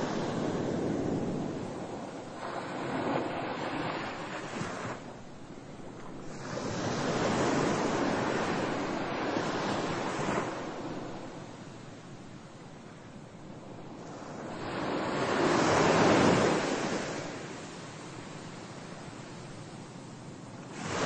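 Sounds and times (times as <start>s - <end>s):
ocean waves washing in: 0.0s - 21.0s.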